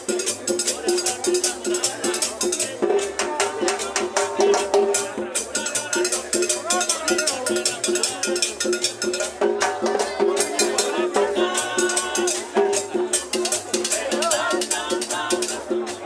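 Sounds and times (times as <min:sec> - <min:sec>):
drums: 0:00.0 - 0:16.0
fast rattling percussion beat: 0:00.0 - 0:16.0.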